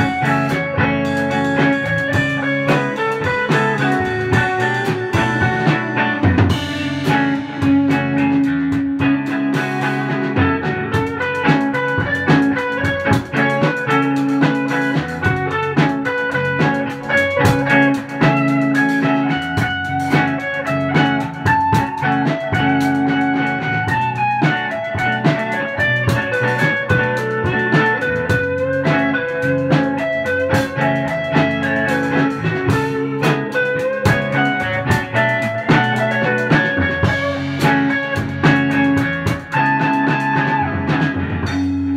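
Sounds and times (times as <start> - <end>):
drum kit: 0.0 - 41.9
electric guitar: 0.0 - 41.9.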